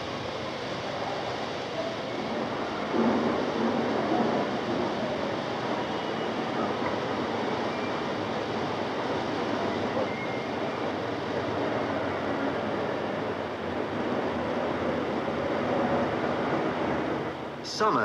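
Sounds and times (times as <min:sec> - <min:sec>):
train rushing and rumbling: 0:00.0 - 0:18.0.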